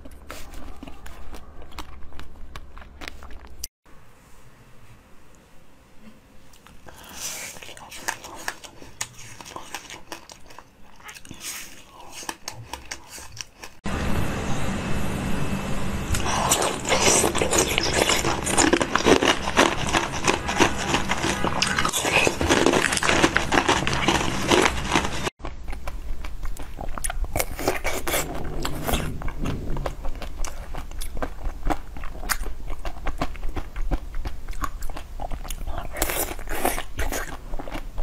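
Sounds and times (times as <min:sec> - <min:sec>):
eating crunches and clicks: 0:00.0 - 0:03.7, 0:06.5 - 0:13.8, 0:16.2 - 0:38.0.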